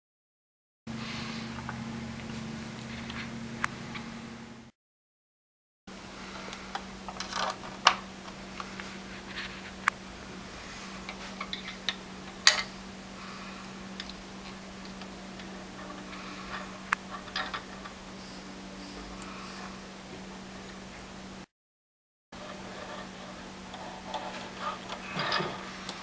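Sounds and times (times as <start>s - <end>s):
steady low hum: 0.9s - 4.7s, 5.9s - 21.5s, 22.4s - 26.0s.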